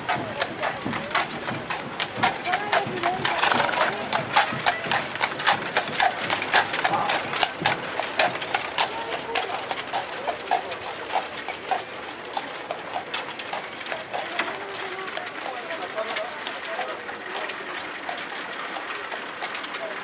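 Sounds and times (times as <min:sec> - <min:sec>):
horse hooves clip-clopping on road: 0:00.0 - 0:20.0.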